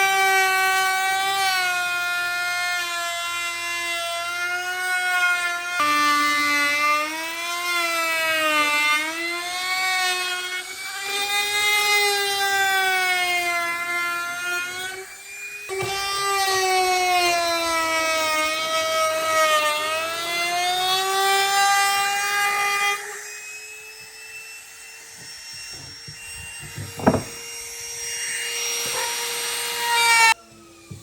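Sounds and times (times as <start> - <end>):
power tool motor whining: 0.0 - 31.0.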